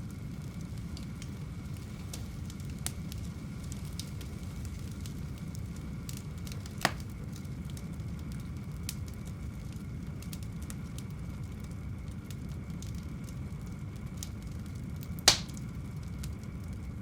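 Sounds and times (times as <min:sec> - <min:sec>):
fire crackling in a fireplace: 0:00.0 - 0:17.0.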